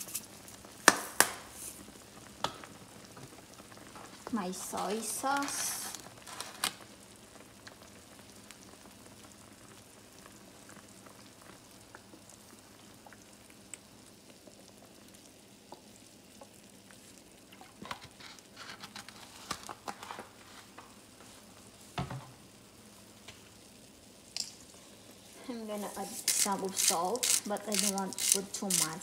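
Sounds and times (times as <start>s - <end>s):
pops and crackles: 0.0s - 22.4s, 25.7s - 29.0s
food sizzling in a frying pan: 0.0s - 29.0s.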